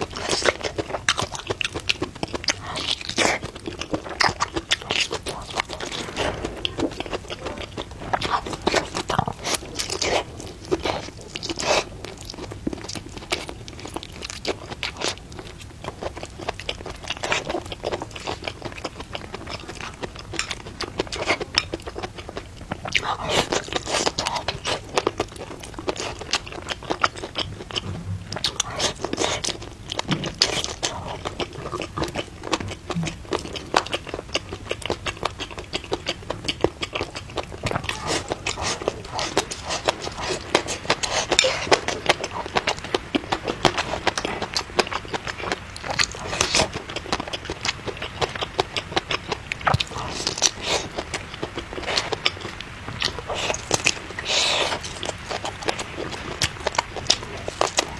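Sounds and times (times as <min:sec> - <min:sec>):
person chewing: 0:00.0 - 0:57.9.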